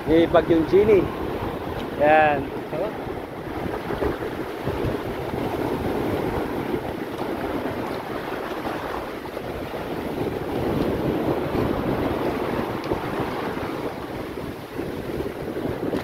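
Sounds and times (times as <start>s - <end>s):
heavy surf breaking: 0.0s - 16.0s
wind buffeting microphone: 0.0s - 16.0s.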